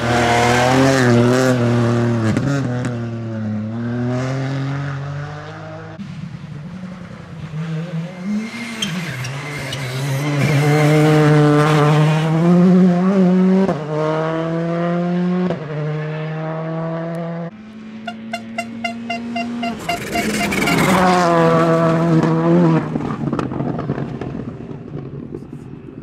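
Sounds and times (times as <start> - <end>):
rally car engine revving: 0.0 - 17.5, 18.1 - 24.6
car accelerating past: 0.0 - 25.0.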